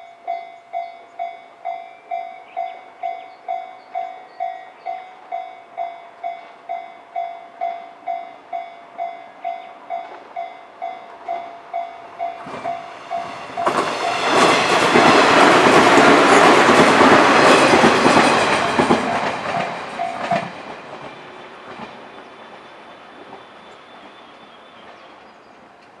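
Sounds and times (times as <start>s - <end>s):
train passing loudly: 0.0s - 26.0s.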